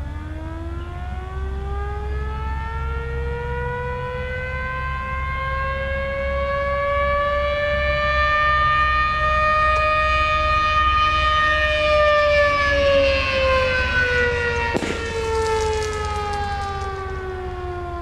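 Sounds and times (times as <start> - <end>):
siren wail rising in pitch: 0.0 - 18.0.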